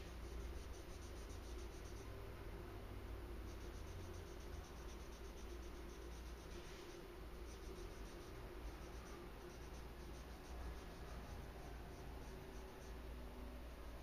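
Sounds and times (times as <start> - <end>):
pen strokes on paper: 0.0 - 2.1, 3.5 - 13.0
low steady hum: 0.0 - 14.0.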